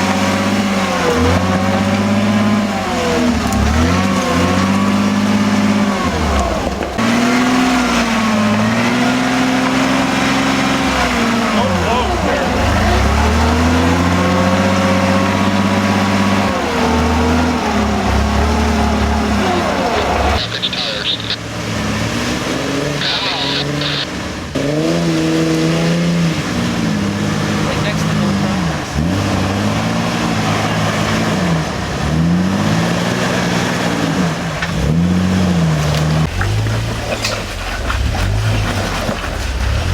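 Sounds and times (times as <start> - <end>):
engine revving under load: 0.0 - 39.9.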